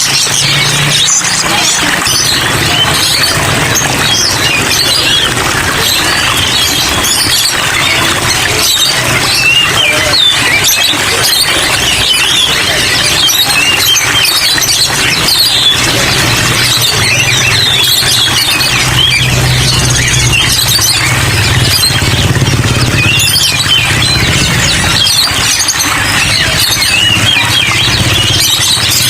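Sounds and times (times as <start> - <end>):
songbirds chirping and singing: 0.0 - 29.0.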